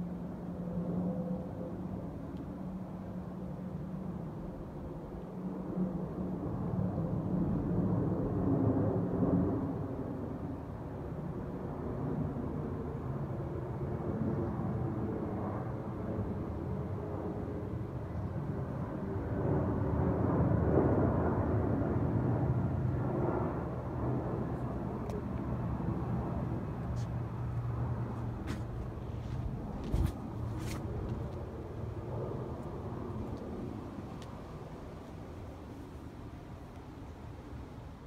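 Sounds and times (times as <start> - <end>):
jet airliner passing overhead: 0.0 - 38.0.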